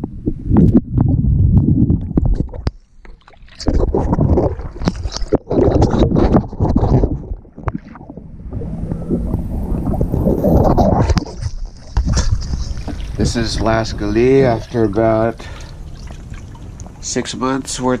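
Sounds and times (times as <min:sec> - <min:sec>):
water sloshing and splashing: 0:01.9 - 0:18.0.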